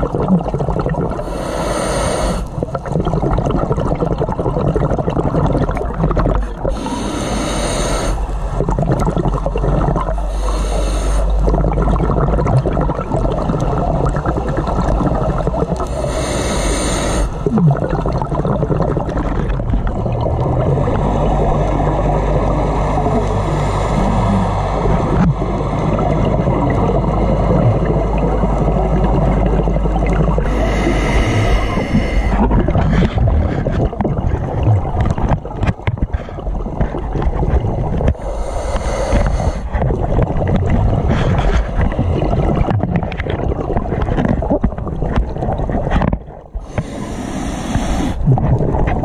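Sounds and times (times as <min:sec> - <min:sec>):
regulator exhaust bubbles: 0:00.0 - 0:01.3, 0:02.3 - 0:07.1, 0:08.2 - 0:16.6, 0:17.2 - 0:47.0, 0:47.7 - 0:49.0
low underwater rushing: 0:00.0 - 0:49.0.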